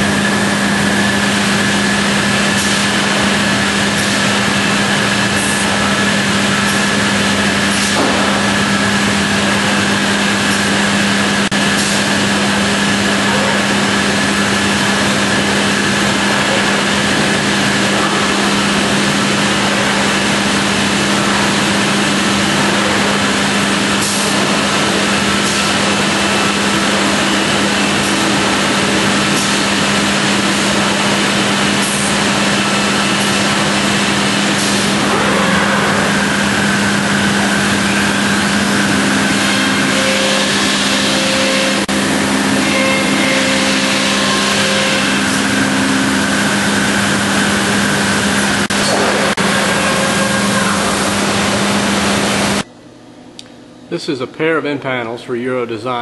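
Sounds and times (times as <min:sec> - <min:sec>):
cnc router machining: 0:00.0 - 0:52.7.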